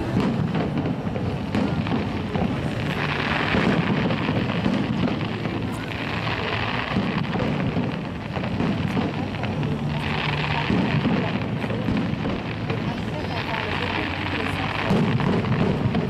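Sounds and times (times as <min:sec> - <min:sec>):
fireworks crackling and bursting: 0:00.0 - 0:16.0.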